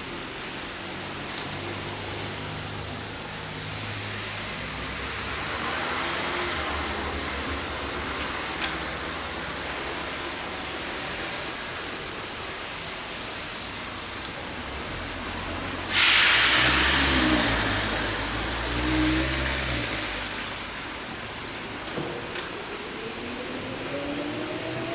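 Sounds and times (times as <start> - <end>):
loud rush of hiss: 0.0 - 24.9
vehicle hum and hiss: 0.0 - 24.9.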